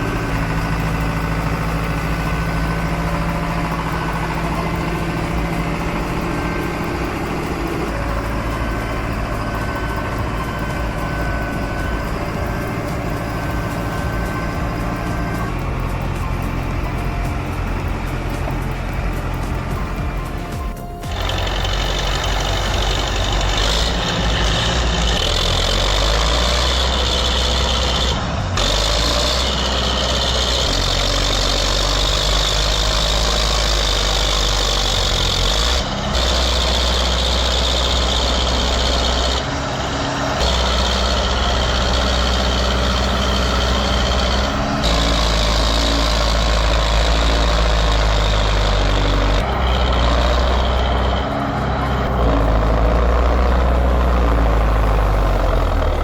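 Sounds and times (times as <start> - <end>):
tractor engines rumbling: 0.0 - 56.0.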